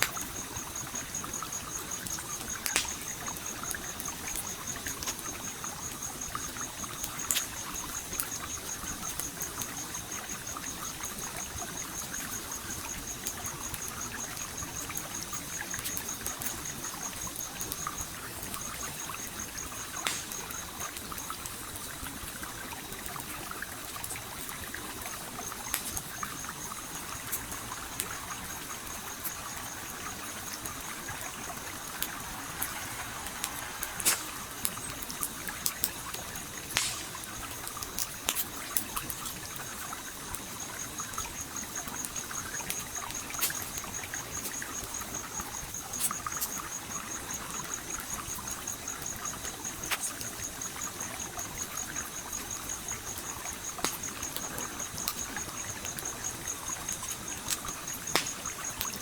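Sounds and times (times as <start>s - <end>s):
campfire crackling: 0.0s - 59.0s
stream flowing: 0.0s - 59.0s.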